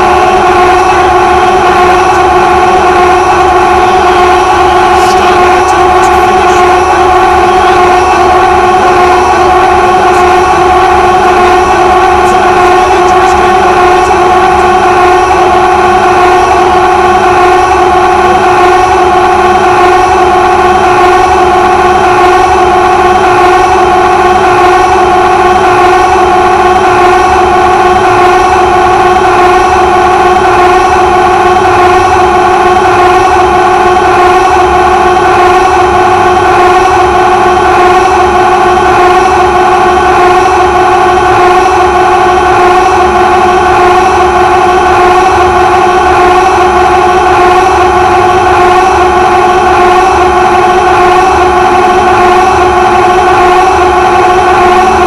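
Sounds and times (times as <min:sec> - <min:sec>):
distorted vocal drone: 0:00.0 - 0:55.0.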